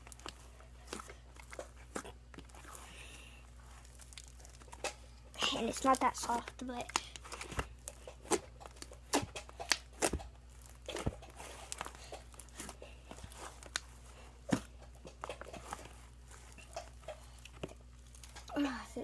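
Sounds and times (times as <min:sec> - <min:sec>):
slime kneaded with sticky pops: 0:00.0 - 0:19.0.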